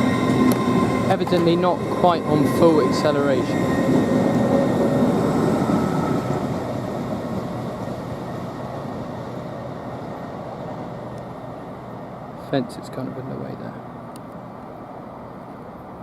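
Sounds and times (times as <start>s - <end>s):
train pulling away: 0.0s - 13.2s.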